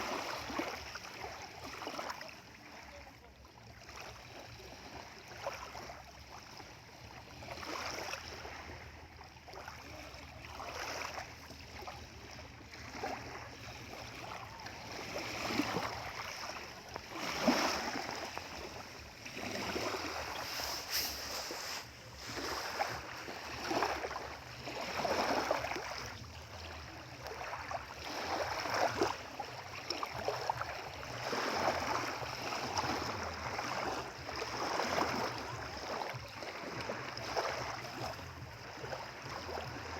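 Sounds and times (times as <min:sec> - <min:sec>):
small waves splashing on shore: 0:00.0 - 0:39.9.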